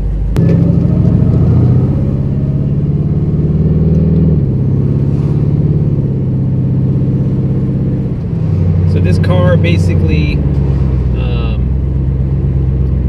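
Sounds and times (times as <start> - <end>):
car engine running while driving: 0.0 - 13.0.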